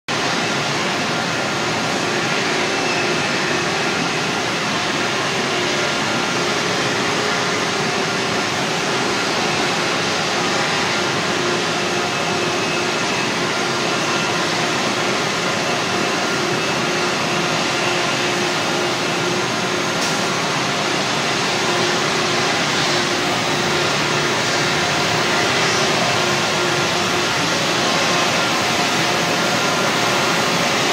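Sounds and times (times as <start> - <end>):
industrial machinery rushing: 0.2 - 30.9.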